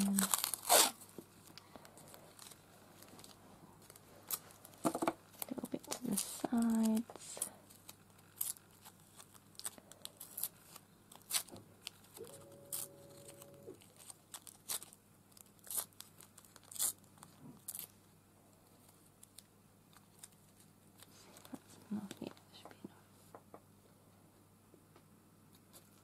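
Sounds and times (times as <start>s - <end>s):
tape ripping and crinkling: 0.0s - 18.0s, 18.7s - 21.6s.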